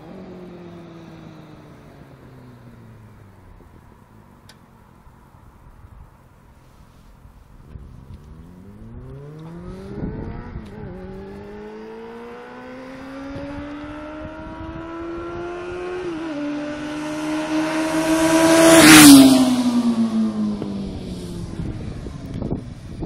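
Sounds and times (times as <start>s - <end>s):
motorcycle accelerating and passing: 0.0s - 5.1s, 7.5s - 23.0s.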